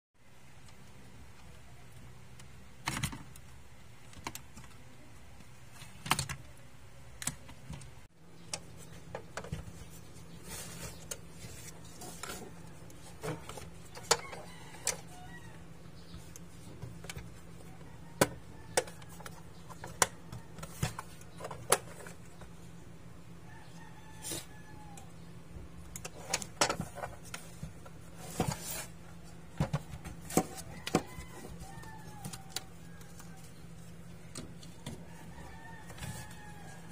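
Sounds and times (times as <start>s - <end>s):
steady low hum: 0.2s - 36.9s.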